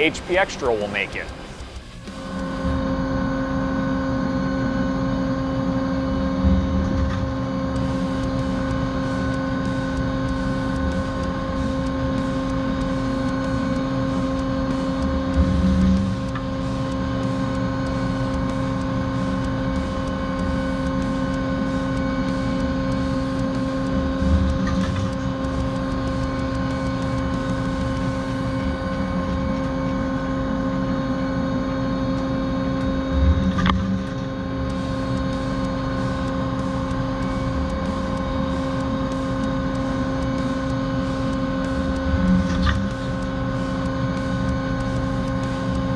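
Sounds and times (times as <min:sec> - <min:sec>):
machine whine: 0:00.0 - 0:45.9.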